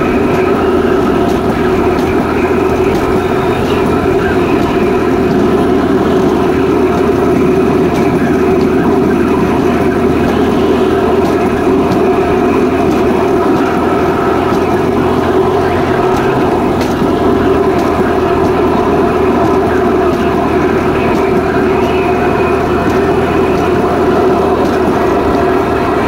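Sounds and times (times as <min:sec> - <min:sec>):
motor drone: 0:00.0 - 0:26.0
wheels rolling on rails: 0:00.0 - 0:26.0.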